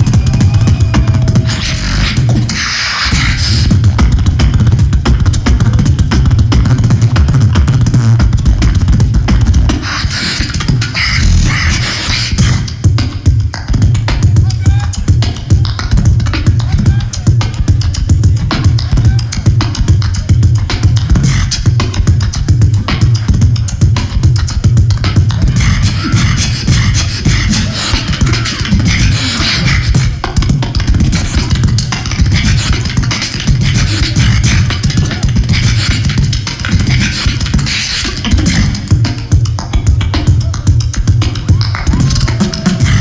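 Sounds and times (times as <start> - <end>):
strong bass: 0.0 - 37.5, 38.2 - 43.0
beatboxing through a microphone: 0.0 - 43.0.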